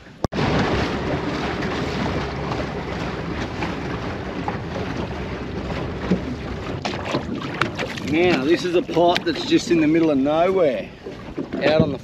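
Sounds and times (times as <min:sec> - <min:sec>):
water noise: 0:00.0 - 0:12.0
wind: 0:00.0 - 0:12.0
small boat motor running: 0:00.3 - 0:12.0.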